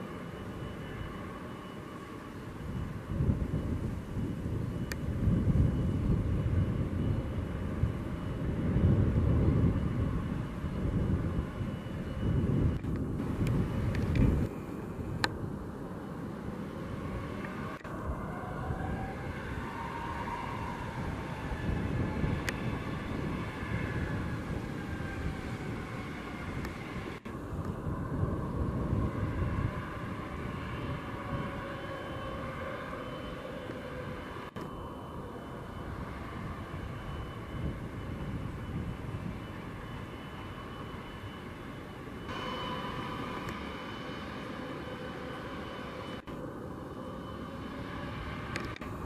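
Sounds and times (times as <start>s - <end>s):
turboprop engine taxiing: 0.0s - 49.0s.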